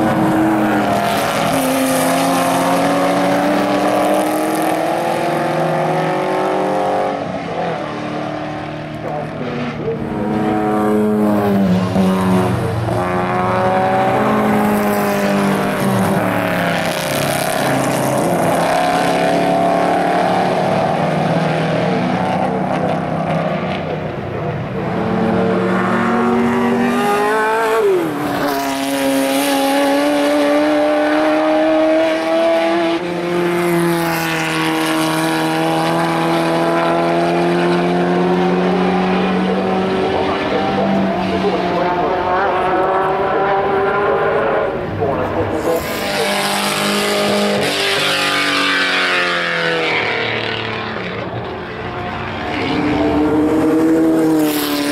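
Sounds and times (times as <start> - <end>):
racing car engines accelerating: 0.0 - 54.9.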